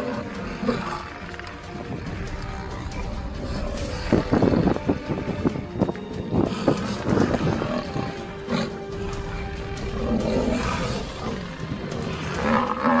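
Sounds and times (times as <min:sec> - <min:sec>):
background music: 0:00.0 - 0:13.0
lion growling and roaring: 0:00.0 - 0:13.0.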